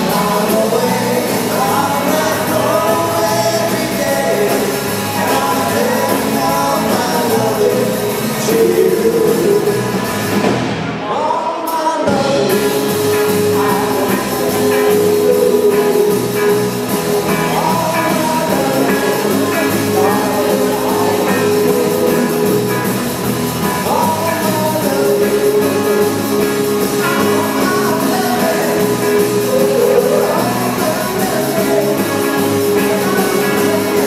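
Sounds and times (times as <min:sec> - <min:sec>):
person singing: 0:00.0 - 0:10.0, 0:11.0 - 0:34.0
electric guitars: 0:00.0 - 0:11.2, 0:12.1 - 0:34.0
drum kit: 0:00.0 - 0:34.0.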